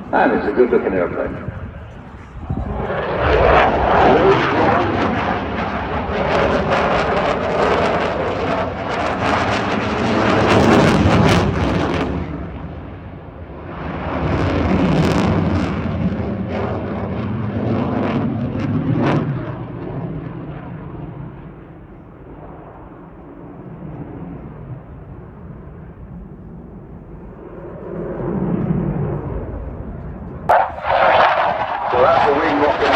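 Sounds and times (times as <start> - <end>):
jet engine crackling roar: 0.0 - 32.9.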